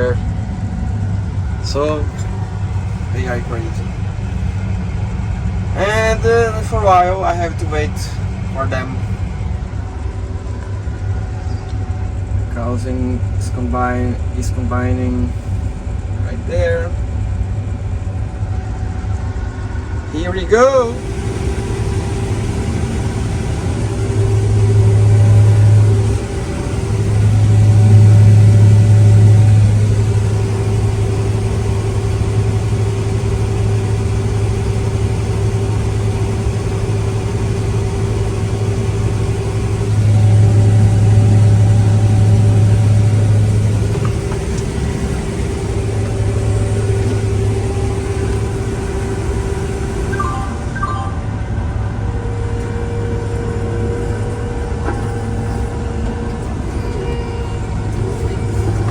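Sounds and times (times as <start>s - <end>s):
combine harvester engine drone: 0.0s - 58.9s
machine whine: 0.0s - 58.9s.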